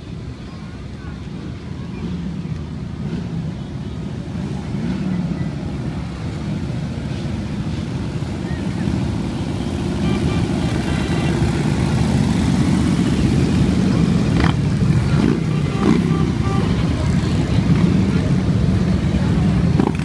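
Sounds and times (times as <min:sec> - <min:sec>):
motorcycle engines passing: 0:00.0 - 0:20.0.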